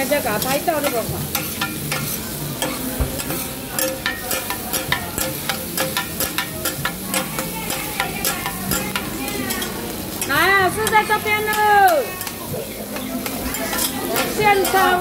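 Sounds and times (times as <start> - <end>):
food sizzling: 0.0 - 15.0
metal spatulas scraping on griddle: 0.2 - 15.0.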